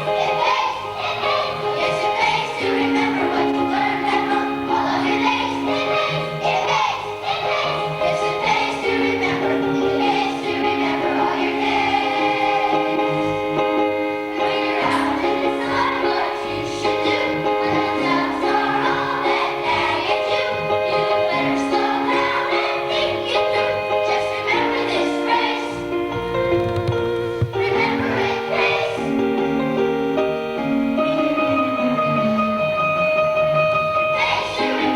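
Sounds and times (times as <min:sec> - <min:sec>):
choir singing: 0:00.0 - 0:26.3, 0:27.4 - 0:31.9, 0:33.6 - 0:34.9
instrumental accompaniment: 0:00.0 - 0:34.9.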